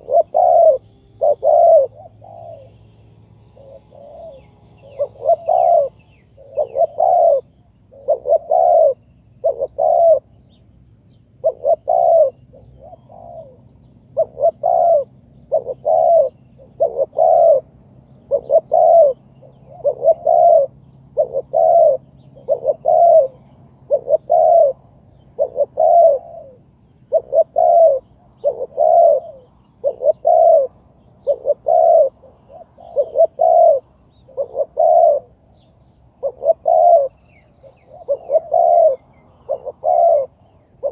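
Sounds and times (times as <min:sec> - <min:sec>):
dove cooing: 0:00.0 - 0:10.6, 0:11.3 - 0:40.9.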